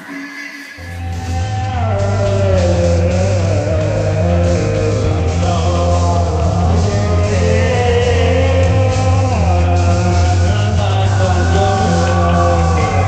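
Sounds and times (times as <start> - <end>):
heavy bass: 0.8 - 13.0.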